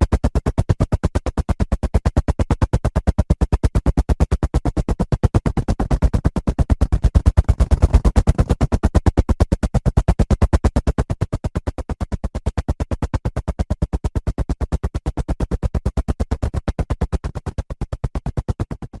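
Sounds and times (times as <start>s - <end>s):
helicopter rotor blades chopping: 0.1s - 19.0s.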